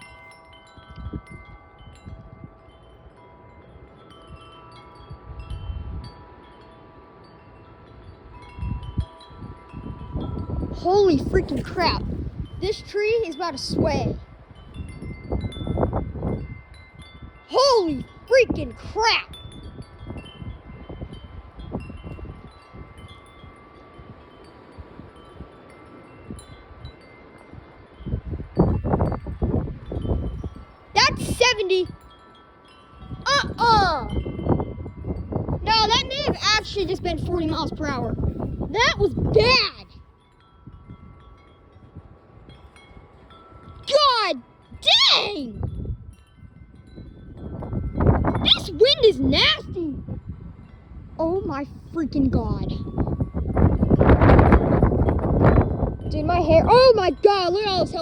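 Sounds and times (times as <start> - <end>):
wind buffeting microphone: 0.0 - 58.0
wind chimes ringing: 0.0 - 58.0.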